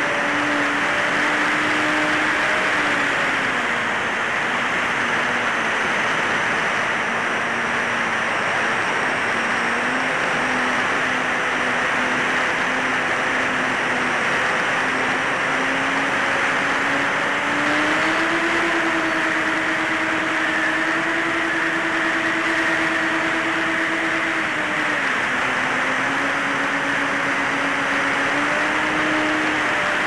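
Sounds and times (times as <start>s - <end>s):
electric motors and propellers droning: 0.0s - 30.0s.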